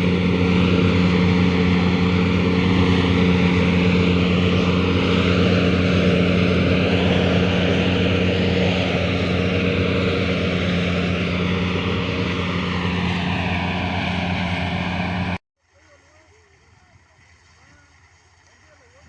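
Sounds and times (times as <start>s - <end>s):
combine harvester engine drone: 0.0s - 15.4s.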